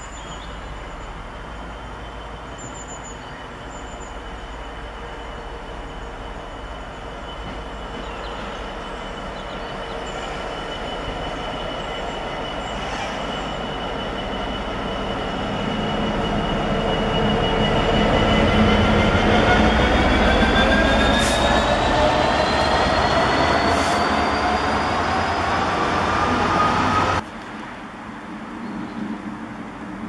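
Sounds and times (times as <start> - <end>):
diesel locomotive engine: 0.0 - 30.0.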